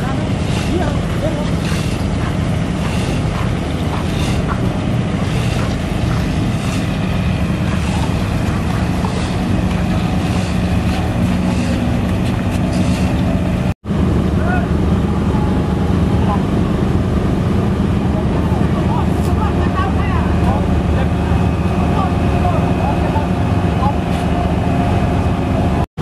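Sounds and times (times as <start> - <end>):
engine droning steadily: 0.0 - 25.9.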